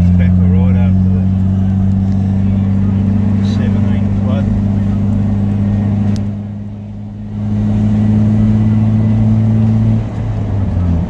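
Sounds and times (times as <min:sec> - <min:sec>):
car engine and road noise in cabin: 0:00.0 - 0:11.0.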